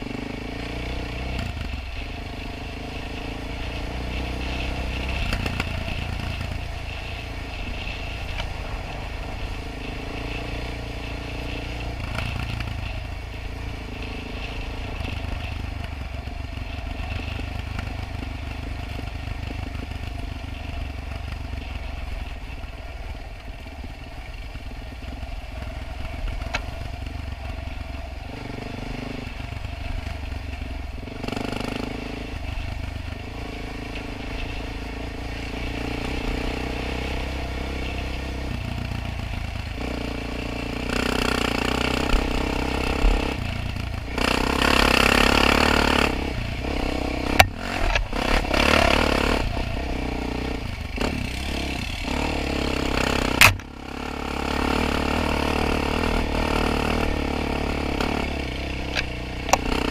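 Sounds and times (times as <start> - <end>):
quad bike engine revving: 0.0 - 22.0, 25.0 - 59.9.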